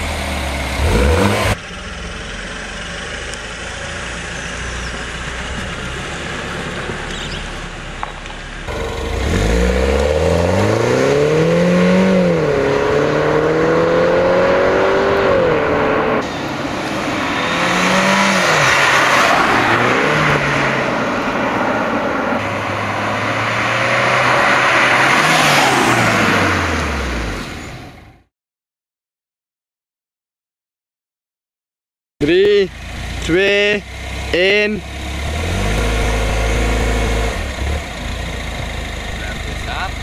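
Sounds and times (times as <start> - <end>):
car engine accelerating: 0.0 - 28.0, 32.2 - 40.0
wind and road noise: 0.0 - 28.3, 32.3 - 40.0.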